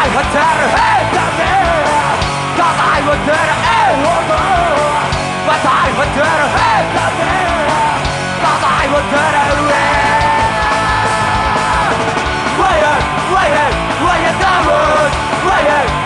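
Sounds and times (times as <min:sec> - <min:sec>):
person singing: 0:00.0 - 0:16.0
punk rock band playing: 0:00.0 - 0:16.0.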